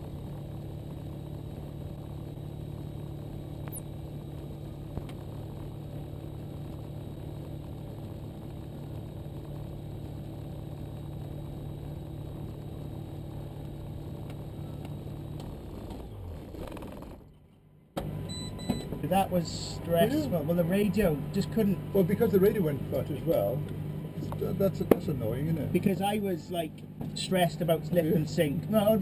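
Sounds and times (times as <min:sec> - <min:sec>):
engine idling through headset: 0:00.0 - 0:29.0.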